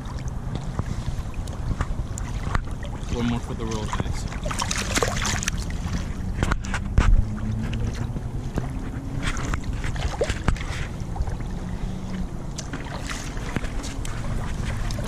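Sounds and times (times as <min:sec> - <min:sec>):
water lapping and splashing: 0:00.0 - 0:15.0
wind rumble on microphone: 0:00.0 - 0:15.0.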